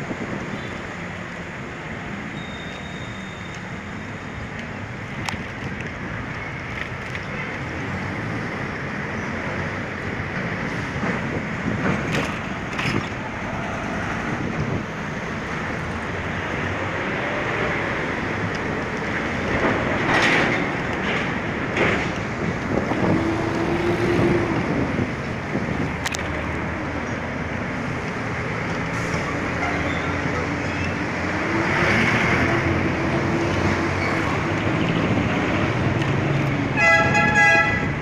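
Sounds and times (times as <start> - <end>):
road noise: 0.0 - 38.0
vehicle engines in slow traffic: 0.0 - 38.0
vehicles passing: 0.0 - 38.0.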